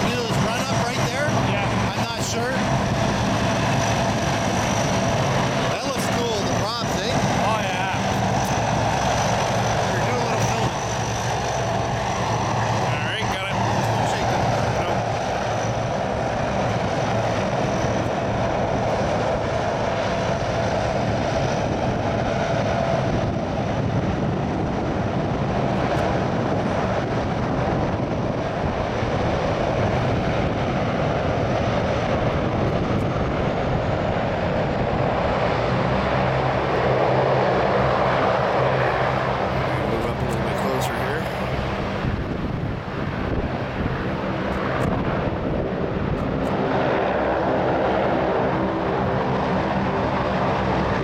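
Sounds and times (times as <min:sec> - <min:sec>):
distant aircraft engines droning: 0:00.0 - 0:51.0.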